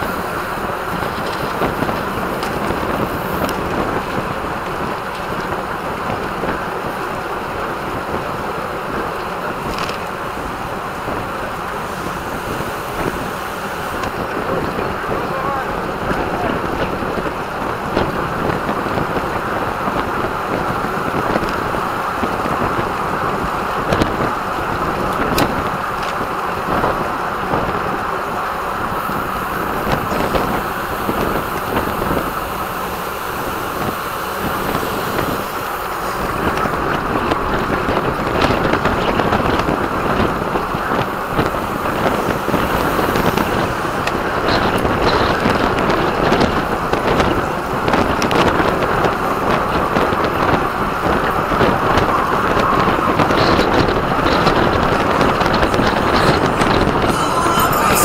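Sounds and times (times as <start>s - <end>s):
bicycle tyre and road noise: 0.0s - 57.6s
wind rushing over microphone: 0.0s - 58.0s.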